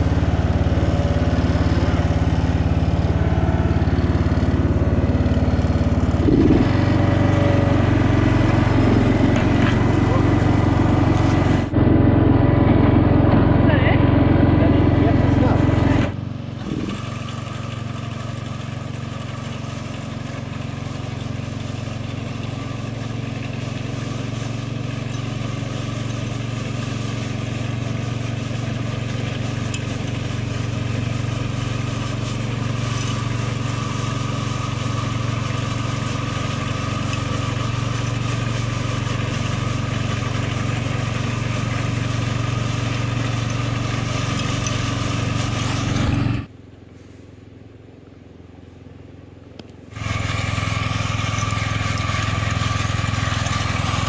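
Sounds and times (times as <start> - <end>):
ride-on mower engine running: 0.0 - 54.0.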